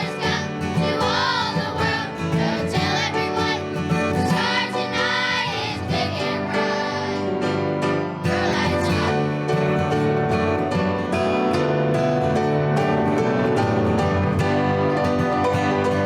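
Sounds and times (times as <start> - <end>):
children's choir singing: 0.0 - 16.0
guitar and piano accompaniment: 0.0 - 16.0.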